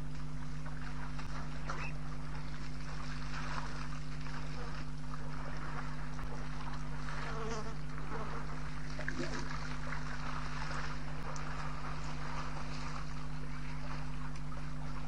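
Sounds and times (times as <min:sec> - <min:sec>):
low buzzing hum: 0:00.0 - 0:15.0.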